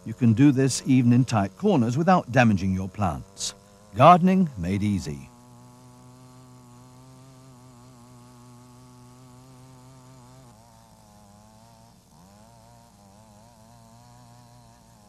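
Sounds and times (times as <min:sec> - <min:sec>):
small engine buzzing hum: 0:00.0 - 0:15.0.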